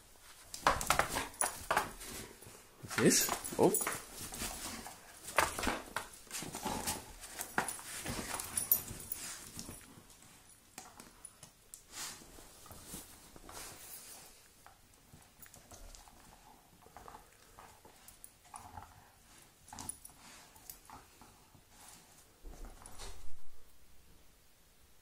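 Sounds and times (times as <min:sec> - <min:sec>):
dog playing with rope toy: 0:00.2 - 0:23.3.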